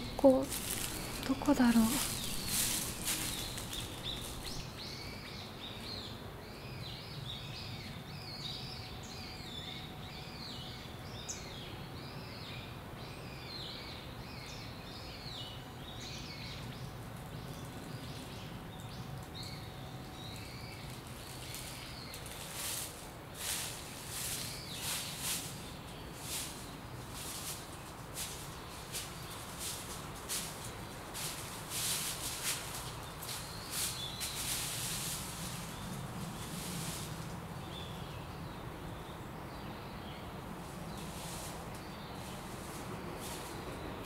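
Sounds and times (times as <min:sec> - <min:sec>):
low background noise: 0:00.0 - 0:44.0
small birds chirping: 0:00.0 - 0:44.0.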